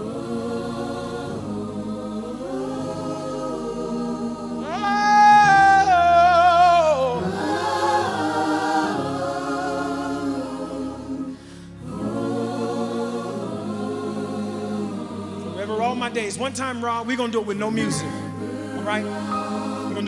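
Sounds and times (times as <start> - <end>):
choir singing: 0.0 - 20.0
lead vocalist singing: 2.3 - 20.0.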